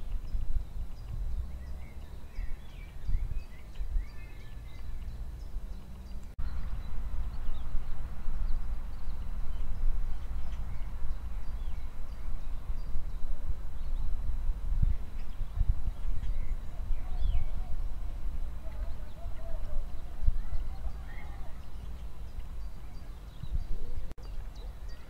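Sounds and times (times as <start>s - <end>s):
steady low rumble: 0.0s - 24.6s
small birds chirping: 0.0s - 25.0s.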